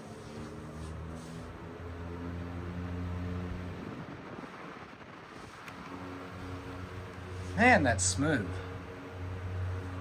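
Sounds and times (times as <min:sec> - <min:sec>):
table fan blowing air: 0:00.0 - 0:10.0.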